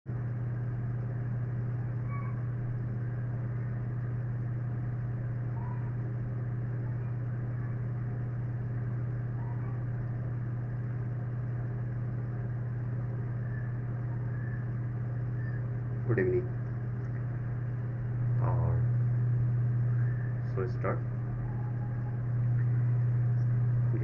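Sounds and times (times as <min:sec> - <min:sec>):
steady low hum: 0:00.1 - 0:24.0.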